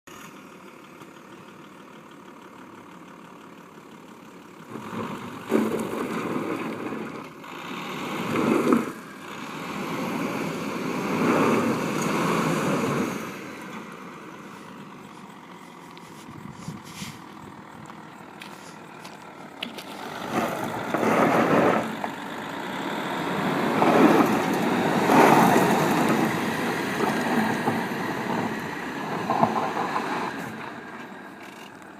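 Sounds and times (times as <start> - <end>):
diesel engine revving under load: 4.5 - 31.9.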